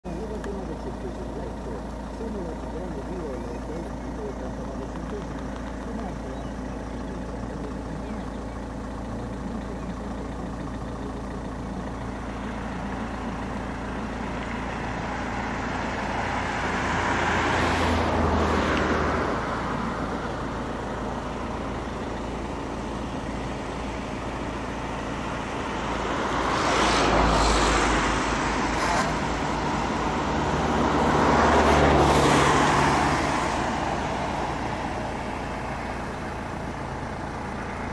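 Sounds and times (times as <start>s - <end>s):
vehicle engine idling: 0.0s - 37.9s
vehicles passing by: 0.0s - 37.9s.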